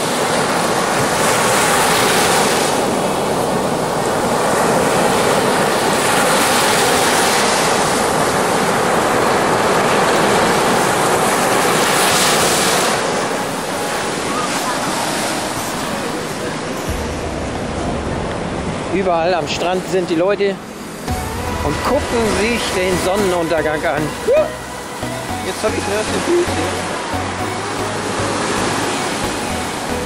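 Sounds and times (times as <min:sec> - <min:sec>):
small waves breaking on shore: 0:00.0 - 0:30.0.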